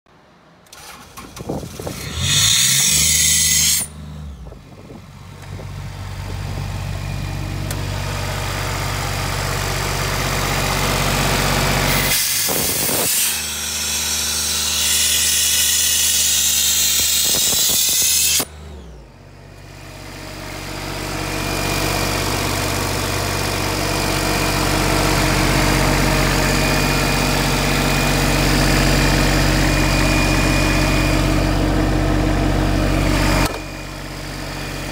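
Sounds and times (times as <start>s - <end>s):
diesel air compressor running: 0.7s - 34.9s.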